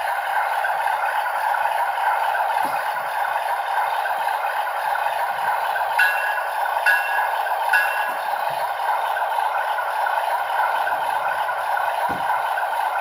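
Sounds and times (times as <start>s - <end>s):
engine sound through small speaker: 0.0s - 13.0s.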